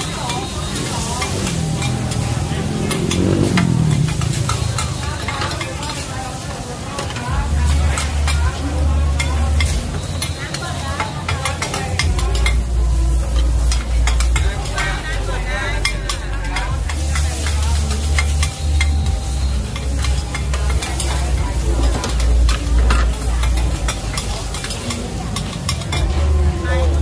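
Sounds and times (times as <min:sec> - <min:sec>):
metal spatulas scraping on griddle: 0:00.0 - 0:26.2
food sizzling in oil: 0:00.0 - 0:27.0.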